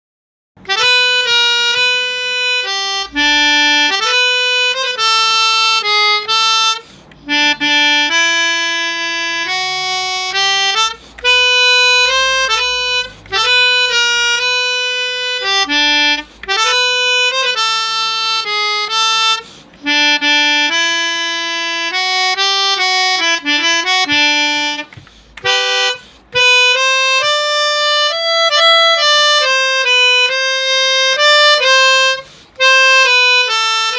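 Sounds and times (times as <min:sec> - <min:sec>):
melodica melody: 0:00.6 - 0:33.9.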